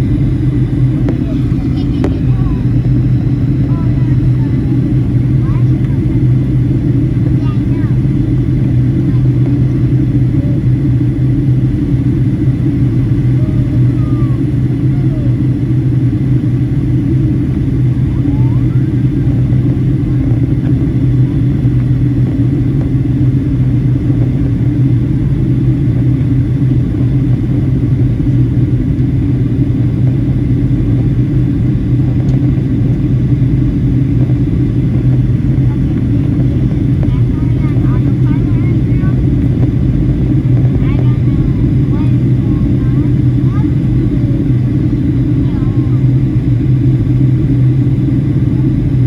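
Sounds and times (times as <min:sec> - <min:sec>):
airliner cabin rumble: 0:00.0 - 0:49.0.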